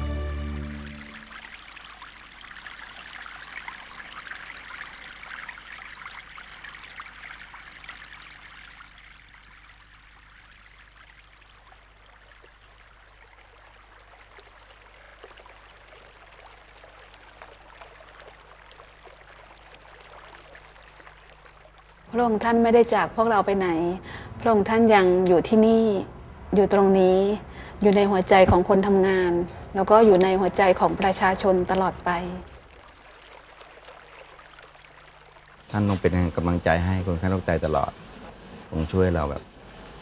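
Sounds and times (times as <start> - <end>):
stream water trickling: 0.1 - 40.0.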